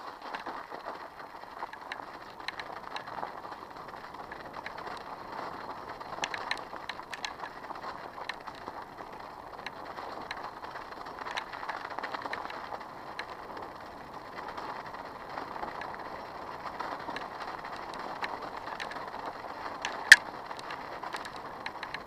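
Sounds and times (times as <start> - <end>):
bike clicks and rattles: 0.0 - 22.0.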